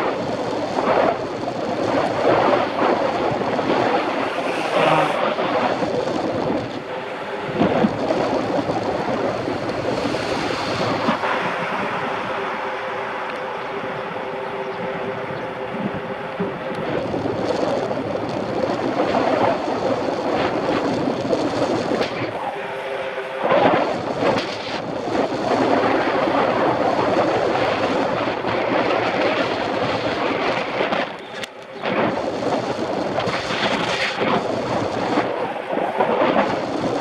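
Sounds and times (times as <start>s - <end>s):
road noise: 0.0s - 37.0s
vehicle noise: 0.0s - 37.0s
wind on microphone: 0.0s - 37.0s.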